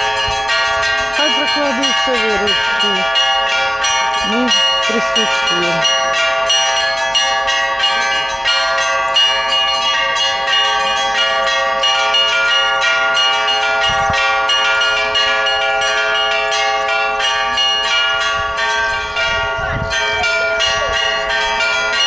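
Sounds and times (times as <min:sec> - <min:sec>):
church bells ringing a peal: 0:00.0 - 0:22.0.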